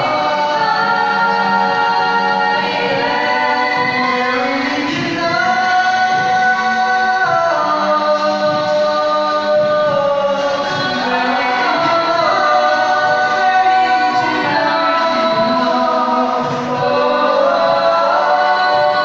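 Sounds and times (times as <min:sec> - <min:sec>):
a cappella group singing harmony: 0:00.0 - 0:19.0.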